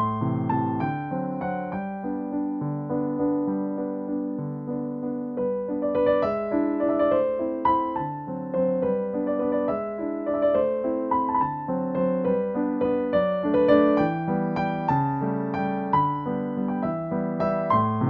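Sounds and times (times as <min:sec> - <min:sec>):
piano tune: 0:00.0 - 0:18.0.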